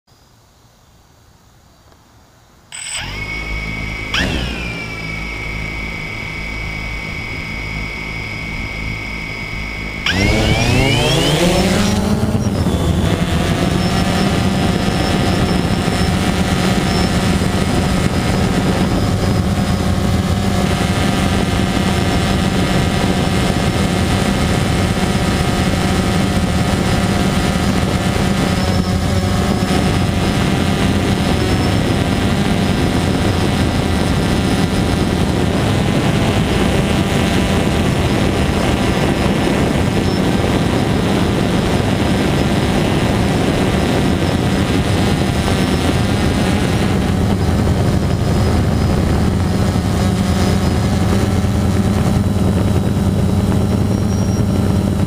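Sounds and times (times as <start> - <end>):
drone motors whining: 2.7 - 55.0
drone propellers hovering hum: 2.7 - 55.0.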